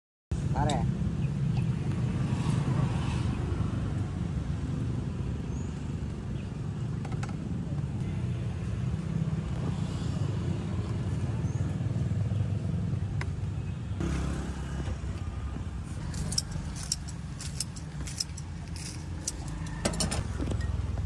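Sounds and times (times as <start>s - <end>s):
road traffic engine rumble: 0.3s - 21.0s.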